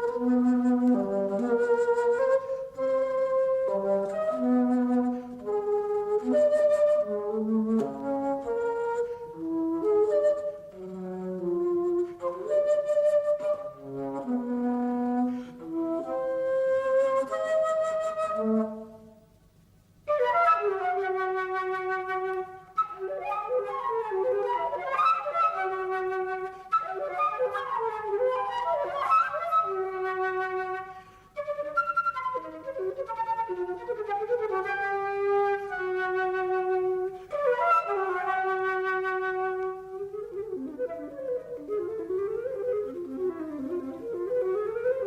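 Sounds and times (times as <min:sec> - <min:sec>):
background music melody: 0:00.0 - 0:45.0.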